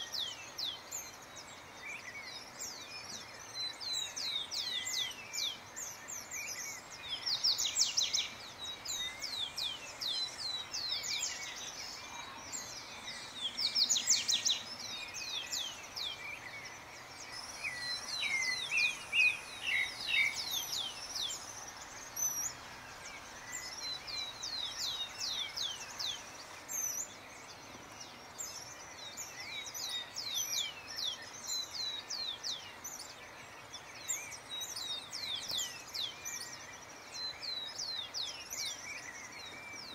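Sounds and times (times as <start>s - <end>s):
faint steady hiss: 0.0s - 39.9s
songbirds chirping: 0.0s - 39.9s.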